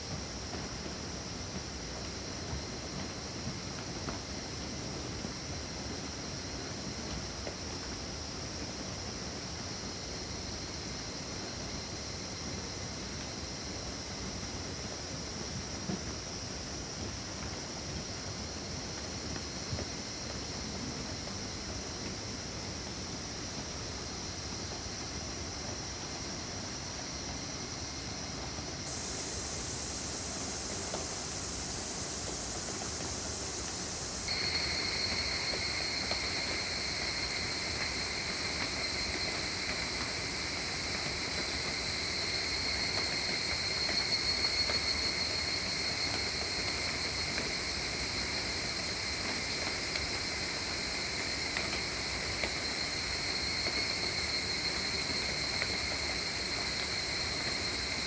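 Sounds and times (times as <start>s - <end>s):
rain falling on forest: 0.0s - 58.0s.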